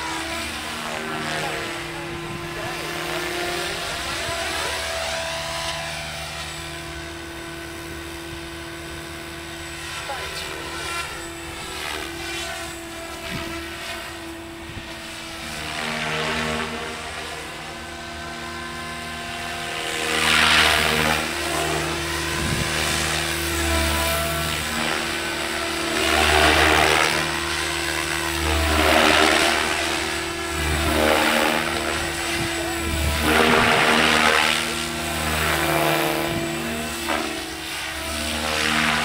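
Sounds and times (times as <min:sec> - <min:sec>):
rc helicopter motor whine: 0:00.0 - 0:39.0
rotor-blade swooshes: 0:00.0 - 0:39.0.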